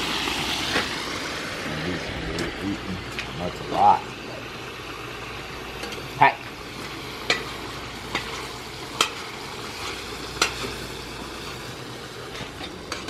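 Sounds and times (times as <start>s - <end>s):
meat sizzling in a pan: 0.0s - 1.7s, 3.0s - 13.0s.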